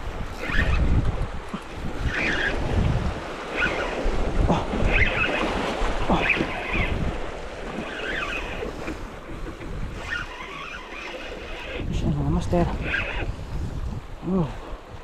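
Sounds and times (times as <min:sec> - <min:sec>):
waves splashing over rocks: 0:00.0 - 0:13.1
wind buffeting microphone: 0:00.0 - 0:15.0.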